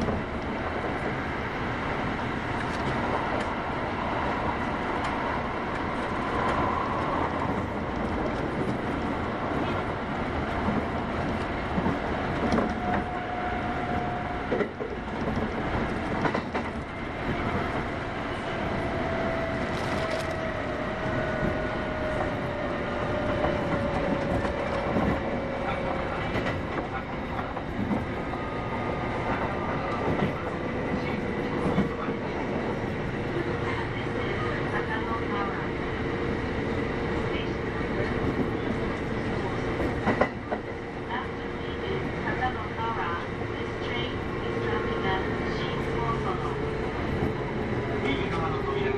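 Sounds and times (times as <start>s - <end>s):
electric train rumble and whine: 0.0s - 48.9s.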